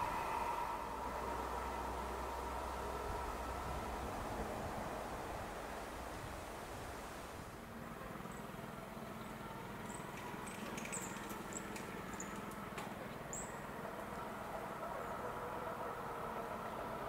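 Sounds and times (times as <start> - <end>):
electric locomotive hum: 0.0 - 17.0.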